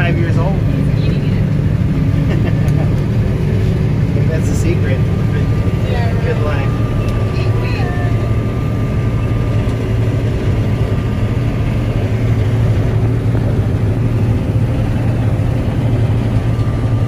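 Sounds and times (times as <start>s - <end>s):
combine harvester engine hum: 0.0s - 17.0s
faint steady whine: 0.0s - 17.0s.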